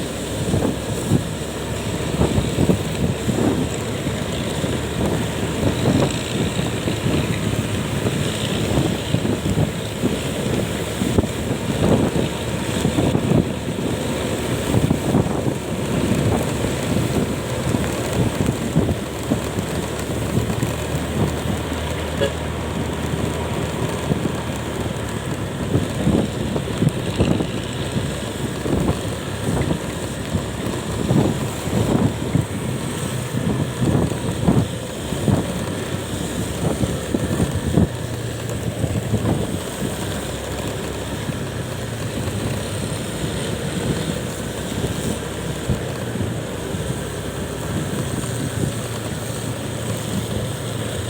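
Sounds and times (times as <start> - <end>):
road and engine noise: 0.0 - 51.0
wind buffeting microphone: 0.0 - 51.0.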